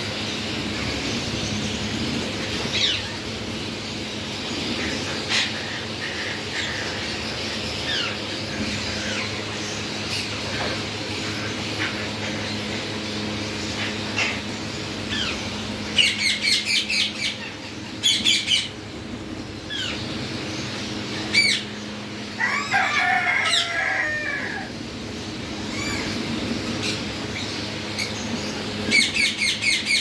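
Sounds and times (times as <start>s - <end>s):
parakeets squawking: 0.0s - 30.0s
steady low hum: 0.0s - 30.0s.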